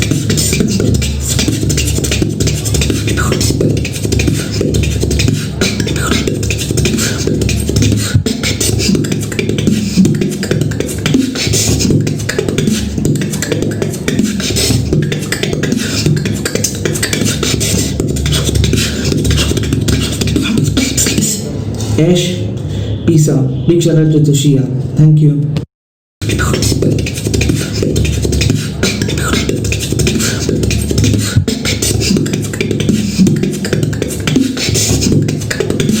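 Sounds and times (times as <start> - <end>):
person beatboxing: 0.0 - 23.4, 26.2 - 36.0.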